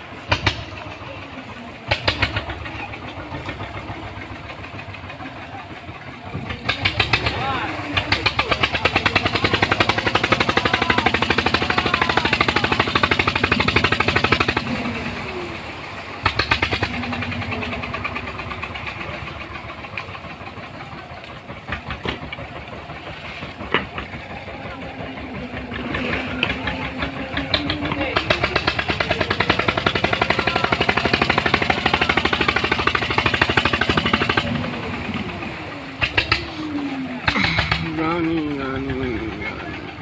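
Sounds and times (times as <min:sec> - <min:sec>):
engine running under load: 0:00.0 - 0:40.0
faint voices: 0:00.0 - 0:40.0.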